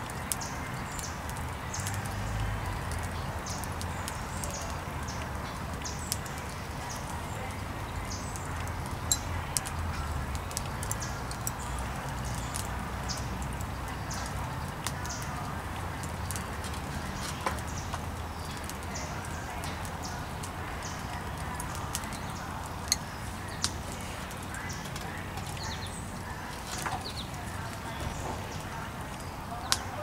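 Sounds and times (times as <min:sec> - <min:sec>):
charcoal fire crackling: 0:00.0 - 0:30.0
birds chirping: 0:00.1 - 0:30.0.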